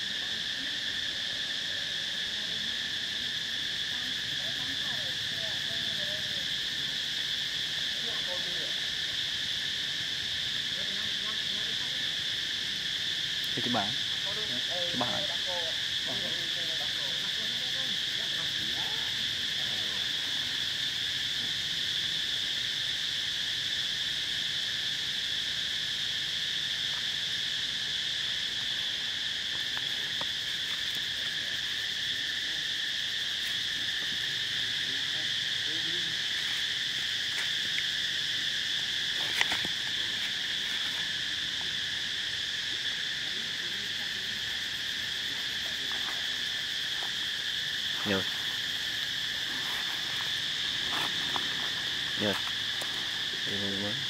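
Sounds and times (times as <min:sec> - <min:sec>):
insect chorus droning: 0:00.0 - 0:54.0.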